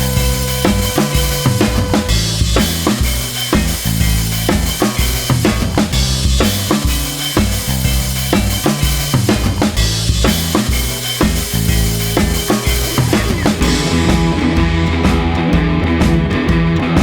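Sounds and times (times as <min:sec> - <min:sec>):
drum-kit beat: 0:00.0 - 0:17.0
heavy bass line: 0:00.0 - 0:17.0.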